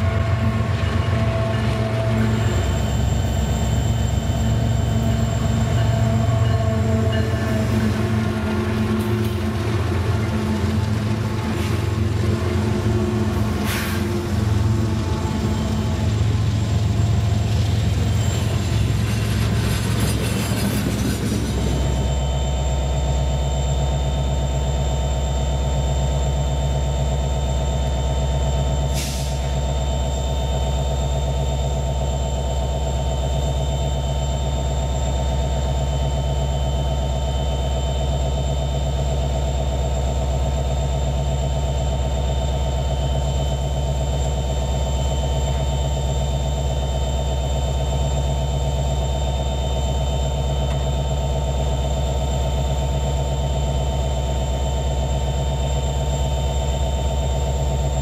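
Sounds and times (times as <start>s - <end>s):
diesel locomotive drone: 0.0s - 58.0s.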